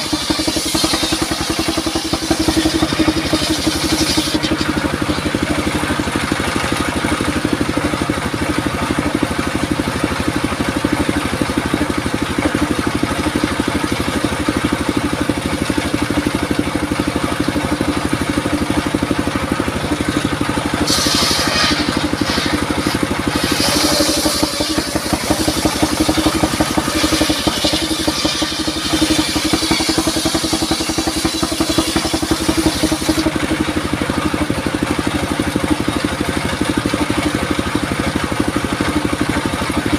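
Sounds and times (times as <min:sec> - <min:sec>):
saw blade cutting wood: 0:00.0 - 0:37.7
circular saw running: 0:00.0 - 0:39.9.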